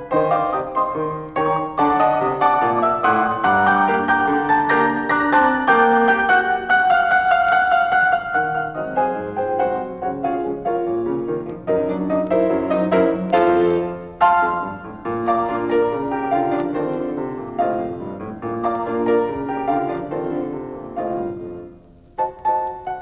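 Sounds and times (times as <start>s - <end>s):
piano notes and chords: 0.0s - 23.0s.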